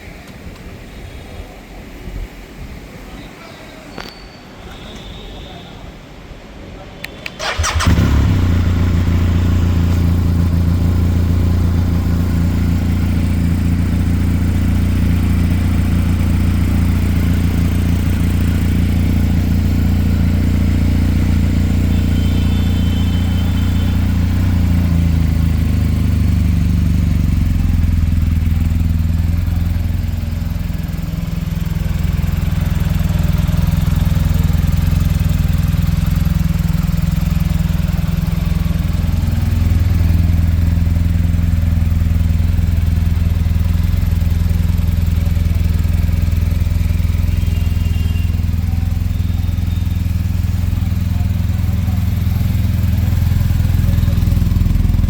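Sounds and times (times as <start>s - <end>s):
motorcycle engine idling: 7.4s - 55.0s.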